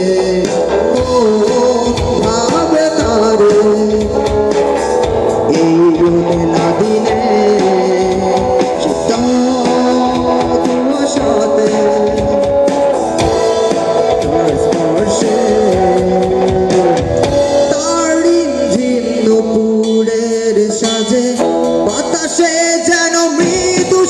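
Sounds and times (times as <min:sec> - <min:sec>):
man singing folk song: 0:00.0 - 0:04.6, 0:05.4 - 0:12.7, 0:13.9 - 0:24.0
instrumental accompaniment: 0:00.0 - 0:24.0.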